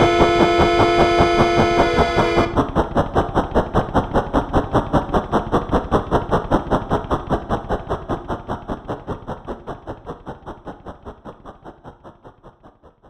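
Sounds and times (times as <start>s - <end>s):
model train clicking on track: 0.0s - 13.0s.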